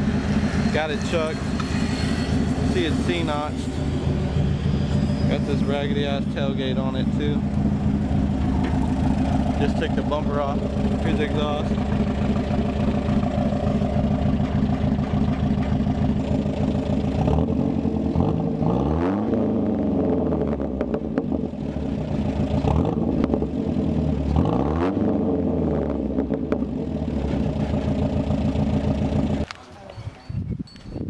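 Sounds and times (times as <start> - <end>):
car engine revving: 0.0 - 29.5.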